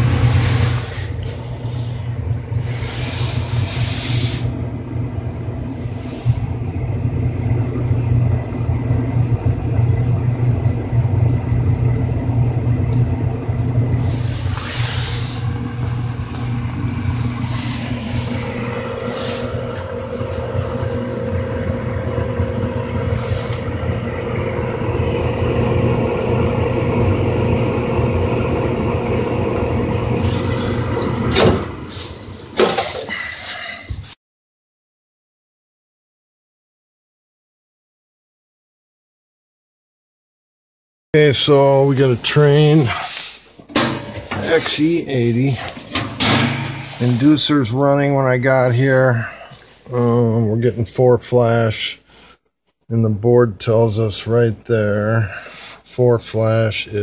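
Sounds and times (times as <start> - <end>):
furnace humming: 0.0 - 34.2, 41.2 - 57.0.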